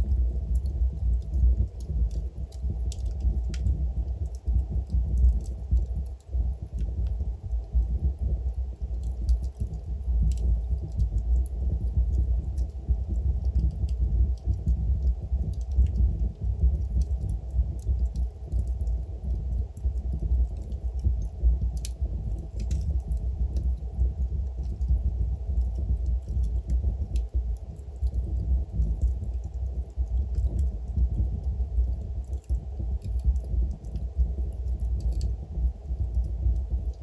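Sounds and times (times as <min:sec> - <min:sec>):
fire flames rumbling: 0:00.0 - 0:37.0
logs crackling and popping: 0:00.0 - 0:37.0.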